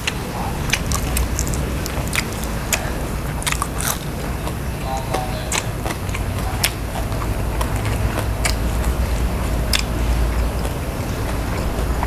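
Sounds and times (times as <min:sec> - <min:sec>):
low rumble: 0:00.0 - 0:12.0
person chewing crunchy food: 0:00.0 - 0:12.0.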